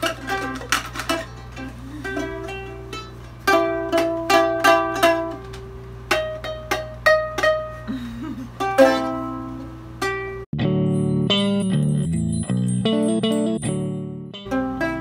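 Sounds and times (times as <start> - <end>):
ukulele strumming chords: 0.0 - 15.0.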